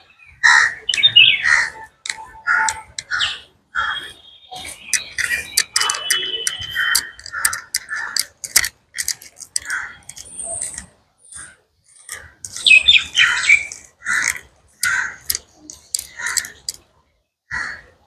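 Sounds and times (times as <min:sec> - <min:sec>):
birds calling and chattering: 0:00.0 - 0:16.8.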